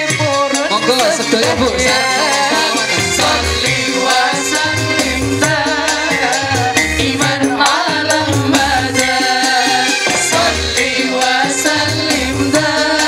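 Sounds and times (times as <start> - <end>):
band with bass and percussion: 0.0 - 13.0
group singing devotional song: 1.0 - 13.0.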